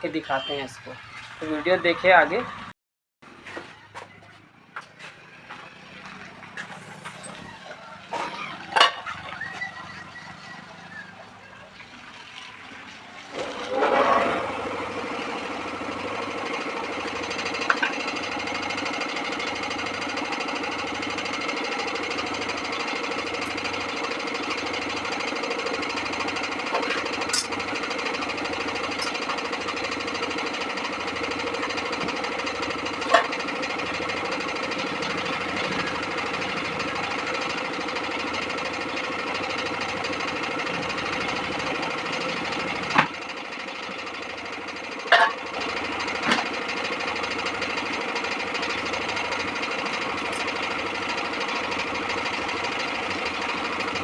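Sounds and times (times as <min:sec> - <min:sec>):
small motor running: 0:05.2 - 0:54.0.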